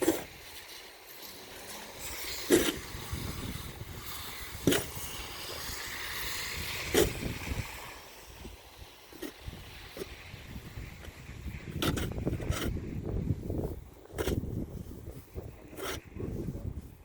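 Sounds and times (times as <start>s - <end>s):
snow shovel scraping: 0.0s - 17.0s
soft outdoor hiss: 0.0s - 17.0s.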